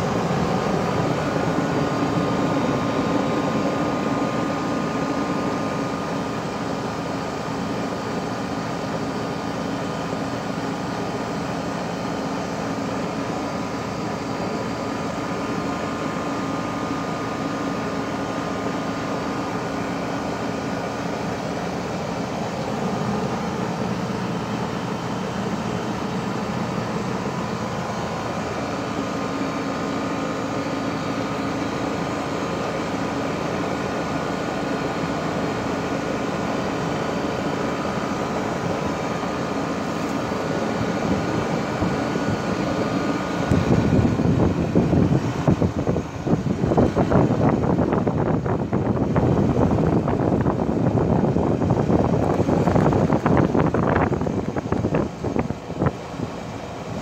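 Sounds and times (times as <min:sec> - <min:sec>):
heat pump fan running: 0:00.0 - 0:57.0.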